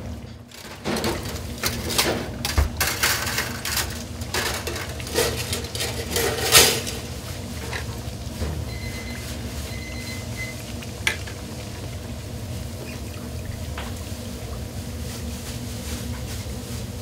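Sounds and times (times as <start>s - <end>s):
food deep-frying in oil: 0.5s - 17.0s.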